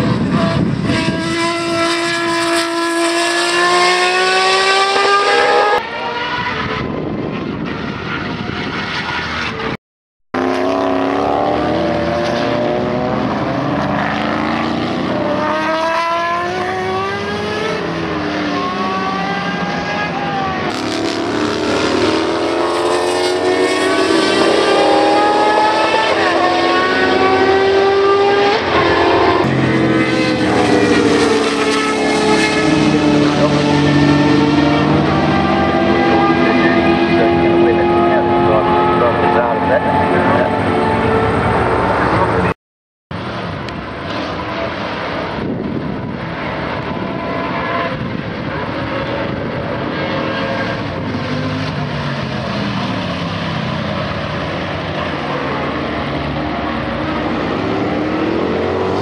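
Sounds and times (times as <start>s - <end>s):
race car engines passing: 0.0s - 9.8s, 10.4s - 42.6s, 43.2s - 59.0s.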